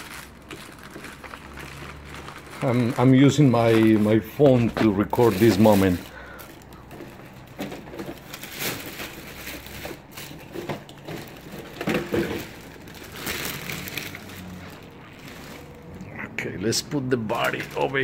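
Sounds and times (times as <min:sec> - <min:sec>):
plastic bag rustling: 0:00.0 - 0:16.0, 0:16.9 - 0:18.0.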